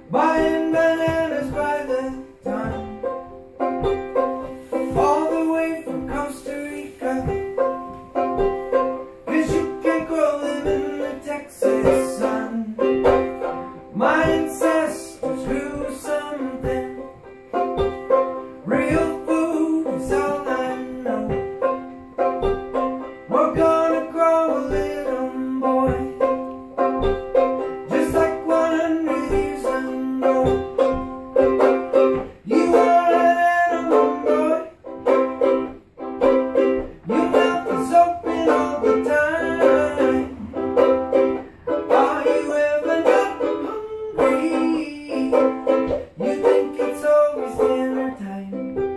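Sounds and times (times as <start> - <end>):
man singing: 0.0 - 35.5, 36.2 - 48.9
strummed banjo ukulele: 0.0 - 48.9.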